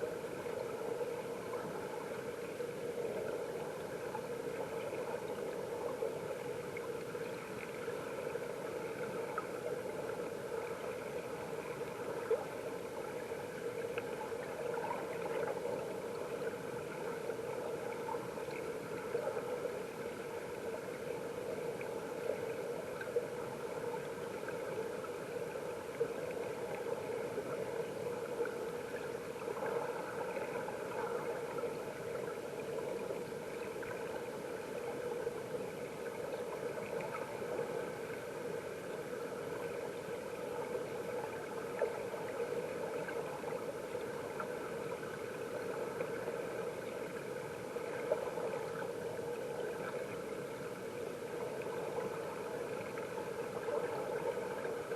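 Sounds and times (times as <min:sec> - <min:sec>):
muffled underwater stream rush: 0:00.0 - 0:54.9.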